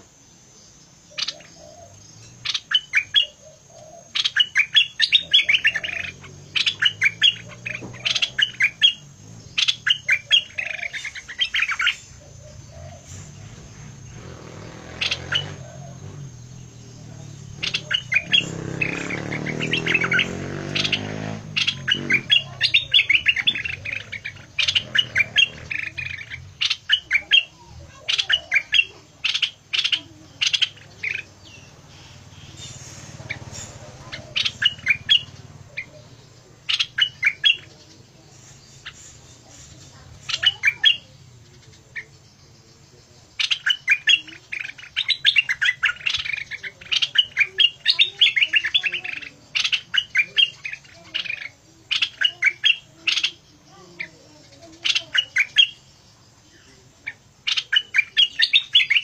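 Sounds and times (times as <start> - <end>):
songbird harsh chirps: 0.0 - 59.0.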